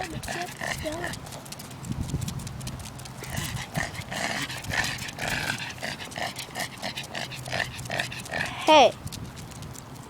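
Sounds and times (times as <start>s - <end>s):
dog panting fast: 0.0s - 9.0s.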